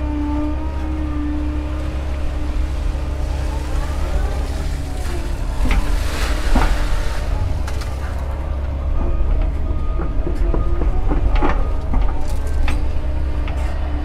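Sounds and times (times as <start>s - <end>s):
excavator diesel engine: 0.0s - 14.0s
hydraulic whine: 0.0s - 14.0s.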